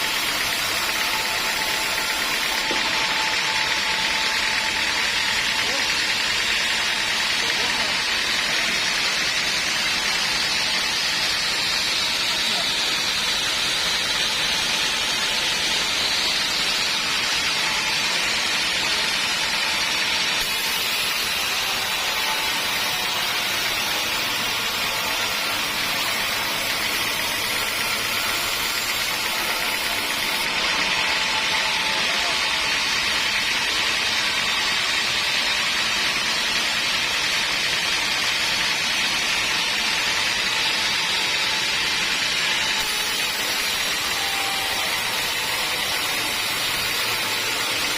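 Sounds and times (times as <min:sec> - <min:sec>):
band sawmill sawing log: 0:00.0 - 0:47.9.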